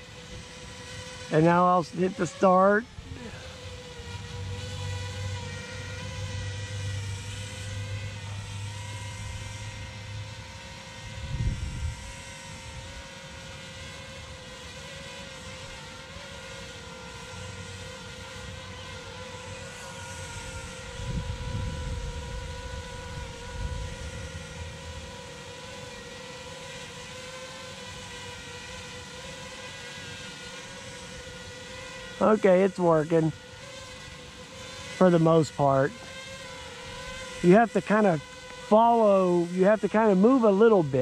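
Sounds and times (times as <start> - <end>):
drone propellers humming: 0.0 - 41.0.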